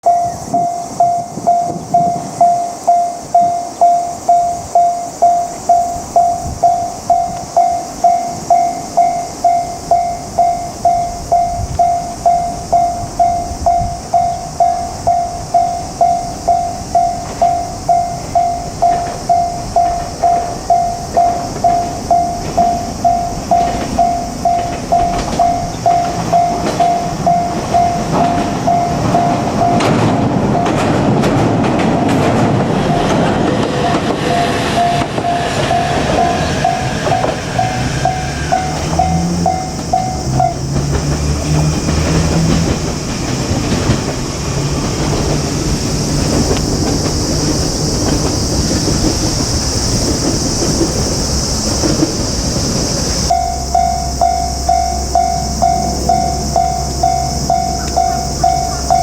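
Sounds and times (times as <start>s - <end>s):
level crossing warning bell: 0.0s - 46.6s, 53.2s - 59.0s
electric train rumble: 0.0s - 59.0s.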